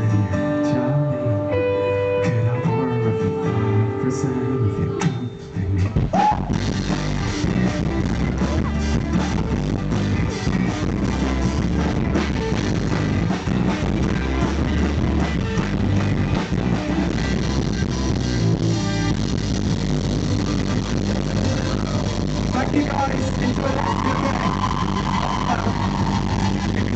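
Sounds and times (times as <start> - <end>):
live rock band through speakers: 0.0 - 26.9.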